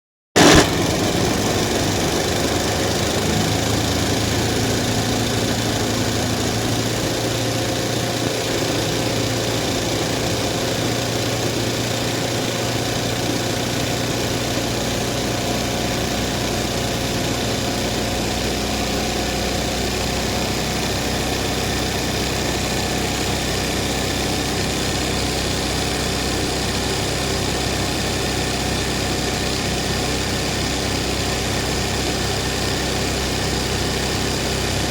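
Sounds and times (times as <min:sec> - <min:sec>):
embroidery machine running: 0:00.4 - 0:34.9.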